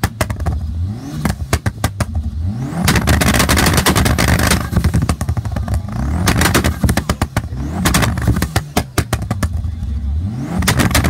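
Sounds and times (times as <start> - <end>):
car engine revving: 0.0 - 11.0
exhaust pops and bangs: 0.0 - 11.0
rushing exhaust noise: 0.0 - 11.0.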